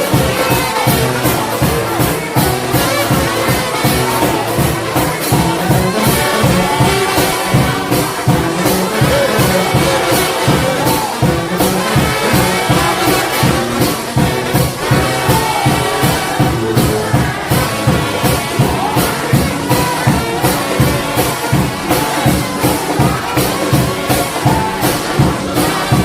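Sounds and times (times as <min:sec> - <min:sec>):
brass horns playing gospel: 0:00.0 - 0:26.0
steady drum beat: 0:00.0 - 0:26.0.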